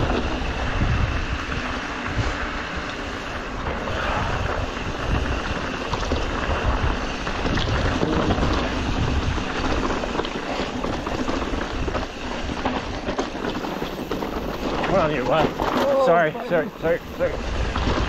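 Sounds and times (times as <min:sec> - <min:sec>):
bike rattles and clicks: 0:00.0 - 0:18.0
bike tyre noise: 0:00.0 - 0:18.0
wind rushing over microphone: 0:00.0 - 0:18.0.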